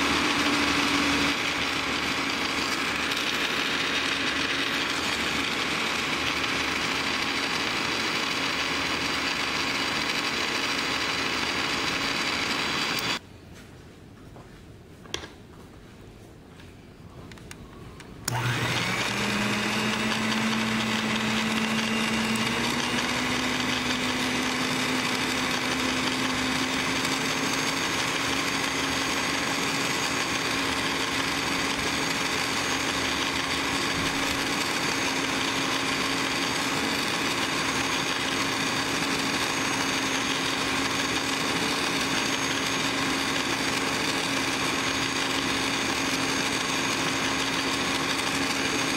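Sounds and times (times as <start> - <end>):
electric mixer motor: 0.0 - 13.2, 18.2 - 48.9.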